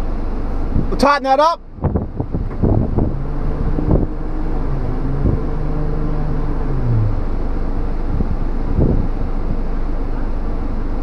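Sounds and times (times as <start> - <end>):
vehicle engine running: 0.0 - 11.0
winch motor humming: 1.7 - 11.0.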